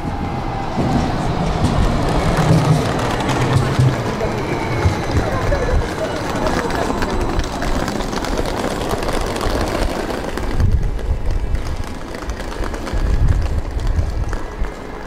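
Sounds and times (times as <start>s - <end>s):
tram humming: 0.0s - 15.0s.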